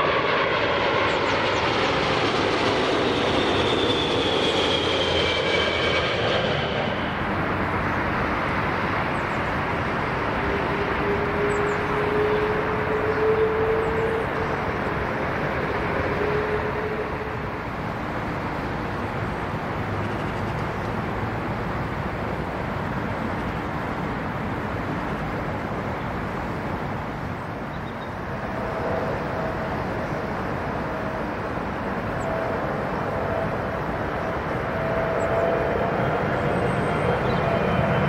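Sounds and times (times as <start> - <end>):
jet engine rumble: 0.0 - 38.0
jet engine whine: 0.0 - 38.0.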